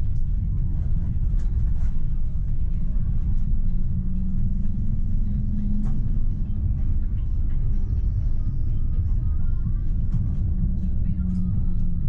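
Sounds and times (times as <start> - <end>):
low motor hum: 0.0 - 12.0
tram wheels rumbling on rails: 0.0 - 12.0.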